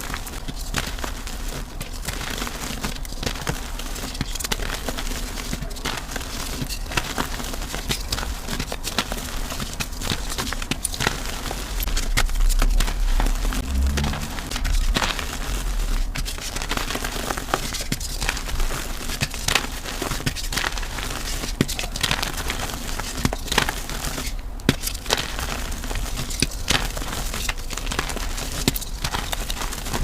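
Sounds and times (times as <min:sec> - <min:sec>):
chalk crunching and crumbling: 0:00.0 - 0:30.0.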